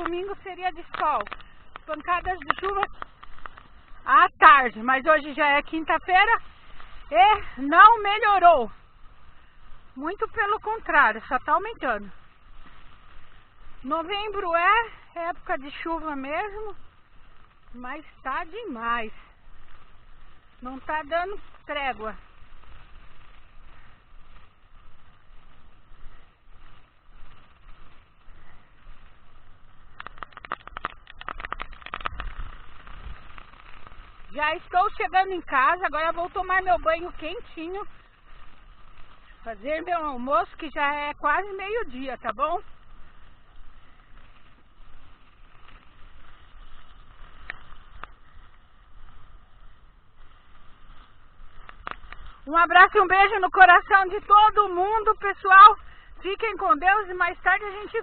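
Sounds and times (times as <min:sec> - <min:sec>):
heavy rain: 0:00.0 - 0:58.0
wind on microphone: 0:00.0 - 0:58.0.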